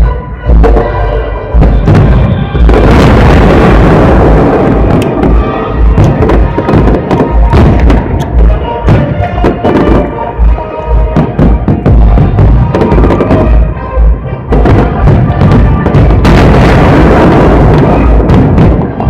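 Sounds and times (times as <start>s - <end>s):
fireworks booming: 0.0s - 19.0s
music playing: 0.0s - 19.0s
sharp firework bangs: 1.6s - 10.1s, 11.2s - 13.7s, 14.5s - 19.0s.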